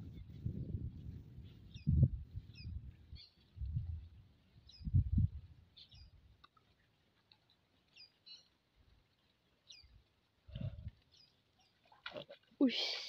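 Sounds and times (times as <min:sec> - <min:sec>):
small birds chirping: 0:01.0 - 0:11.9.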